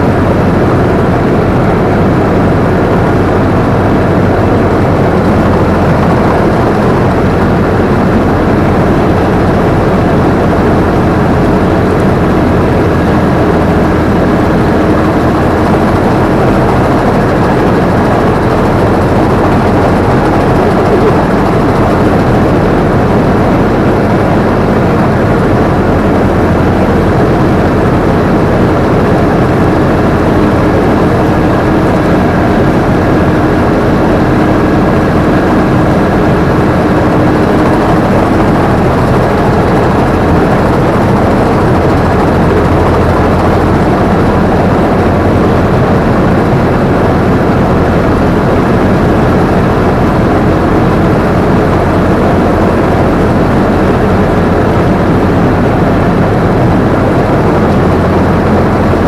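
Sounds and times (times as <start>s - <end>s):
combine harvester running: 0.0s - 59.0s
faint steady hum: 0.0s - 59.0s.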